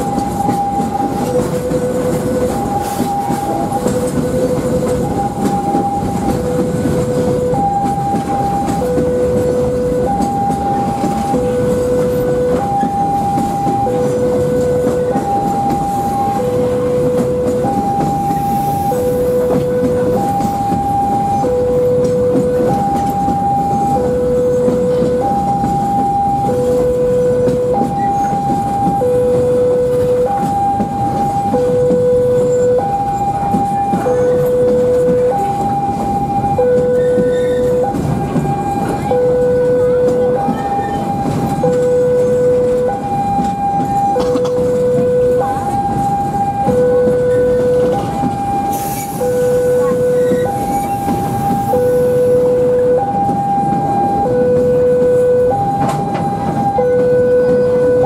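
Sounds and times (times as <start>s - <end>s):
freight train rumbling past: 0.0s - 58.0s
two-tone level-crossing alarm: 0.0s - 58.0s.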